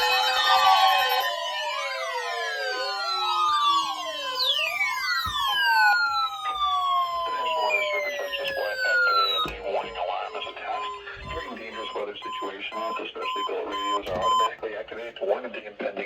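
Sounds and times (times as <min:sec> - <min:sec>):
siren-like alarm sweeps: 0:00.0 - 0:14.6
steady alarm tone: 0:00.0 - 0:14.6.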